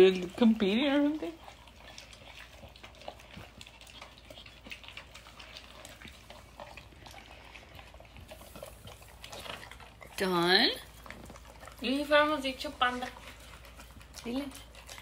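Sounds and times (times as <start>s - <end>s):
dogs licking and chewing: 0.0s - 15.0s.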